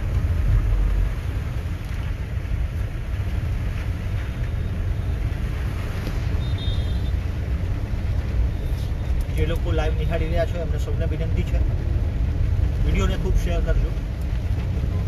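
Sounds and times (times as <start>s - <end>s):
car driving on wet street: 0.0s - 15.0s.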